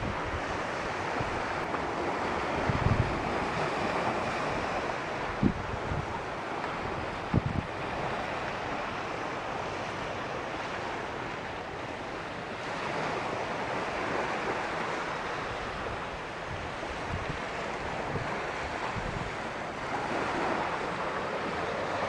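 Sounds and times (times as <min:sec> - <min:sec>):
wind on microphone: 0:00.0 - 0:10.9, 0:12.6 - 0:22.0
surf washing onto beach: 0:00.0 - 0:22.0.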